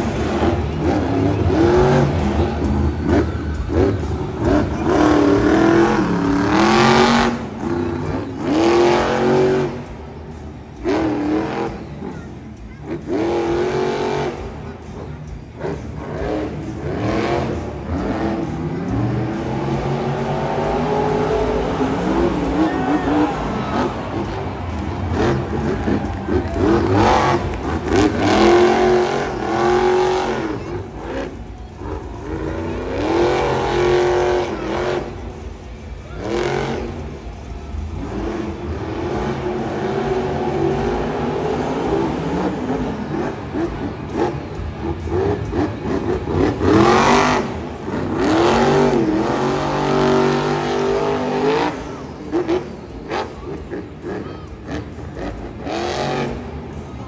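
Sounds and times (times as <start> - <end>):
truck engine revving: 0.0 - 57.0.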